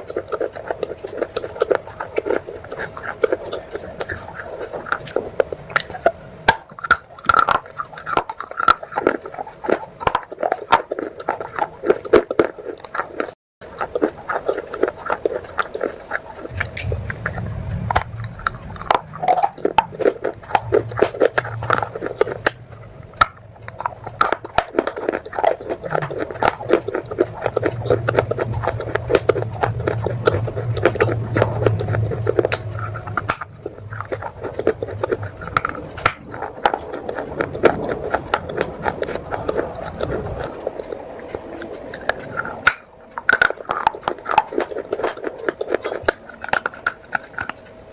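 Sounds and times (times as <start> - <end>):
crunching and chewing clay: 0.0 - 47.9
low hum: 0.0 - 47.9.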